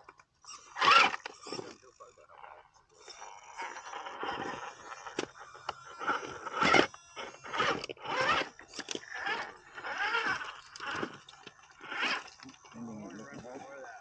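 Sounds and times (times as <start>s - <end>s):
crunching scrapes: 0.7s - 14.0s.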